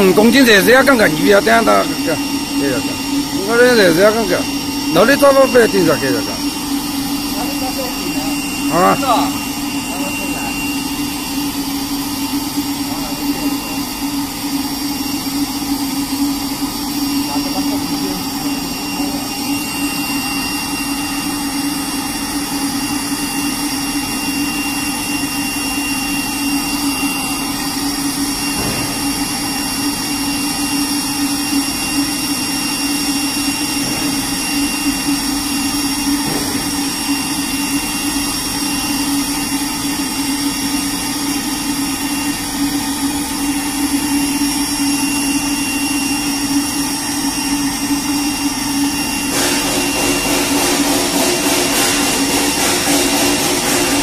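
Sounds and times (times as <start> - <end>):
high whining tones: 0.0 - 54.0
spray dryer humming: 0.0 - 54.0.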